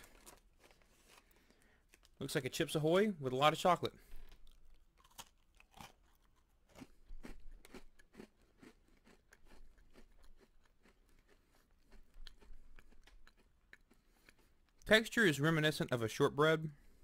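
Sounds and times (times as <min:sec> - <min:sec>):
cookie chewing crunches: 0:00.0 - 0:16.2.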